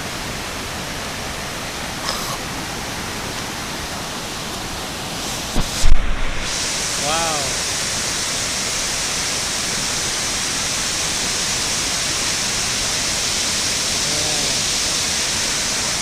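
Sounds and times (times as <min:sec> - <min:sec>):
waterfall pouring: 0:00.0 - 0:16.0.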